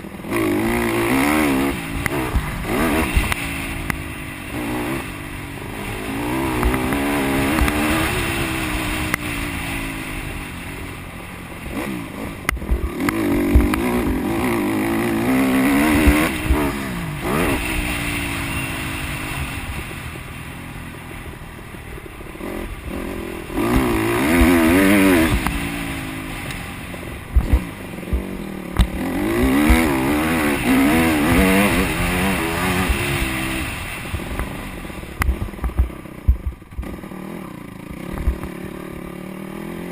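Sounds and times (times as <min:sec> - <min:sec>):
motocross bike engine revving: 0:00.0 - 0:20.6, 0:21.2 - 0:39.9.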